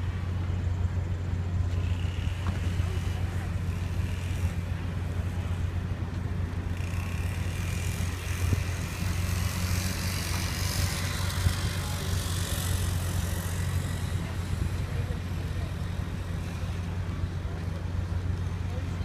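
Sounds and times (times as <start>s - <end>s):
broad rushing noise: 0.0s - 19.0s
ship engine droning: 0.0s - 19.0s.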